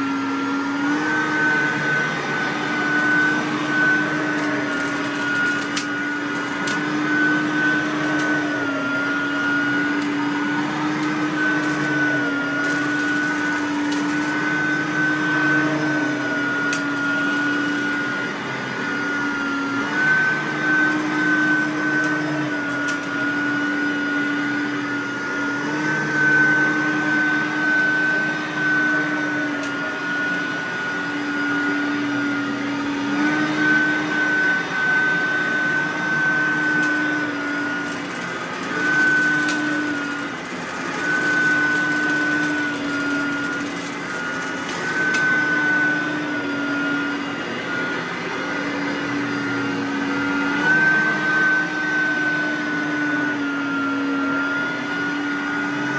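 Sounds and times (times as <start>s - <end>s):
vacuum cleaner running over carpet: 0.0s - 55.9s.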